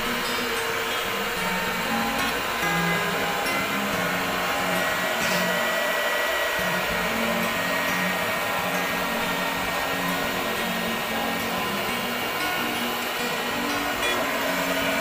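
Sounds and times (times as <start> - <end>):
cloth cutting machine motor whine: 0.0 - 15.0.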